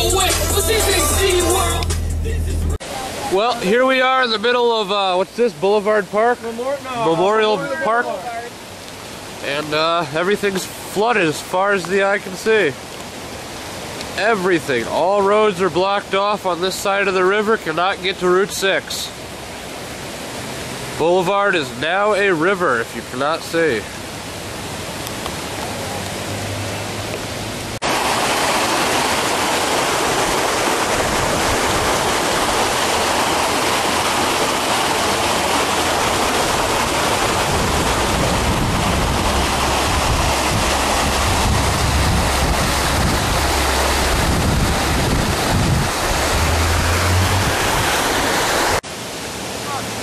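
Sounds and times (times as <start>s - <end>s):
floodwater rushing down a street: 2.8s - 50.0s.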